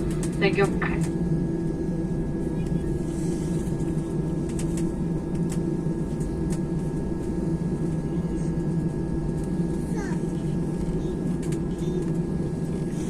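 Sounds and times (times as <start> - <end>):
airliner engines droning: 0.0 - 13.0.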